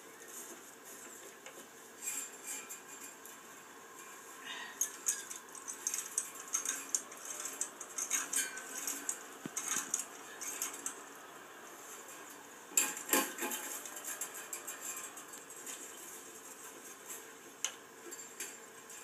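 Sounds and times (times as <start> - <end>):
fence wires clinking and rattling: 0.3 - 19.0.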